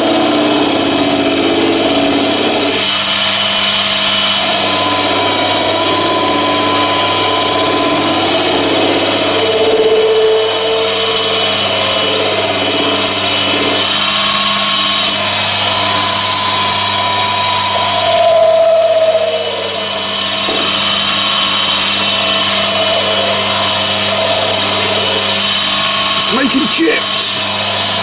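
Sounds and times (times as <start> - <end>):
lathe motor humming: 0.0 - 28.0
lathe tool cutting metal: 0.0 - 28.0.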